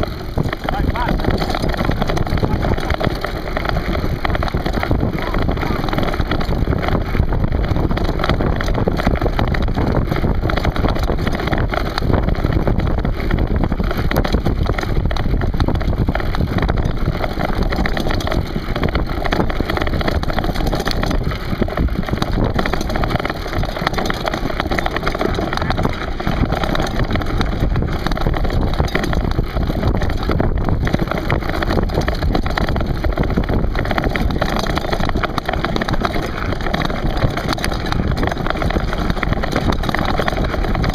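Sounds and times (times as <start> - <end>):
bikes rattling over rocky trail: 0.0 - 40.9
wind on microphone: 0.0 - 40.9.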